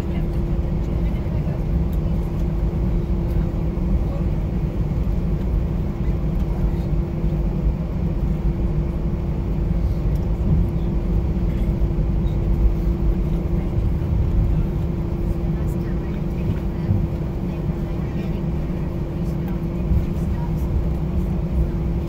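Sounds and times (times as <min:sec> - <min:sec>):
airliner cabin low rumble: 0:00.0 - 0:22.0
mid-pitched hum: 0:00.0 - 0:22.0.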